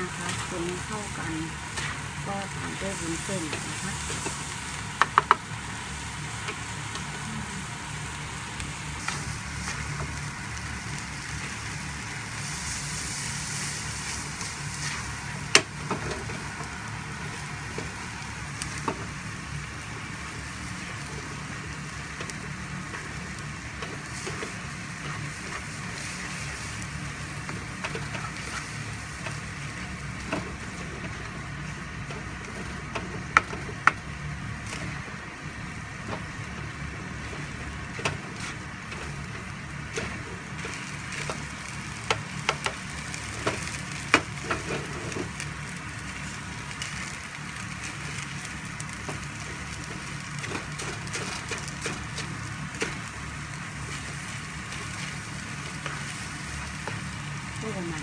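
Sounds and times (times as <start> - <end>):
food sizzling in a frying pan: 0.0 - 58.0
steady low hum: 0.0 - 58.0.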